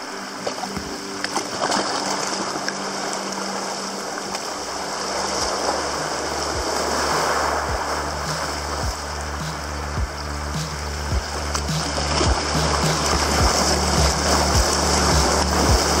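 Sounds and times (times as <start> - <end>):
seawater rushing and splashing: 0.0 - 16.0.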